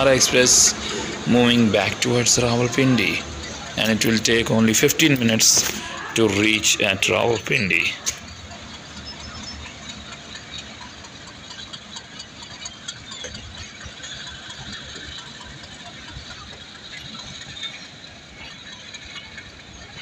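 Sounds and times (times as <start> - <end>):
train running gear rumble: 0.0 - 20.0
train wheels clattering over rail joints: 0.0 - 20.0.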